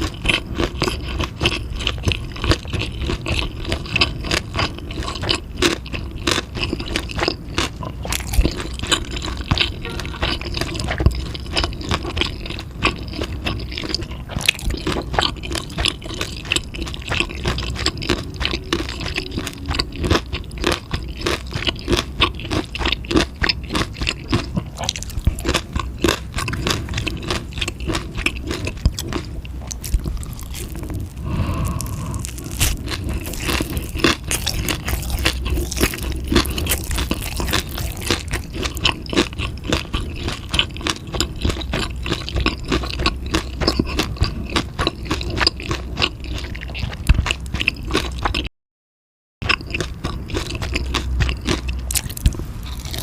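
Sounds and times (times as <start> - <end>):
chewing food: 0.0 - 48.5, 49.4 - 53.0.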